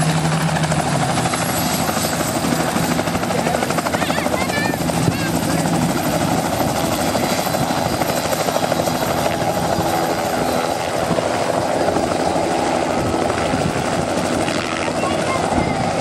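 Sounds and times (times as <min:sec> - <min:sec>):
helicopter rotor chopping: 0:00.0 - 0:16.0.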